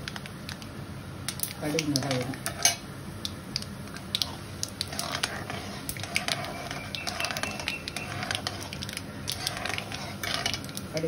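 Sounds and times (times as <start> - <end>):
seeds crackling in hot oil: 0.0 - 11.0.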